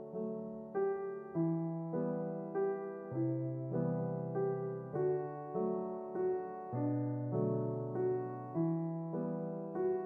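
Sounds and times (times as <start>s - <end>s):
solo piano music: 0.0s - 10.0s.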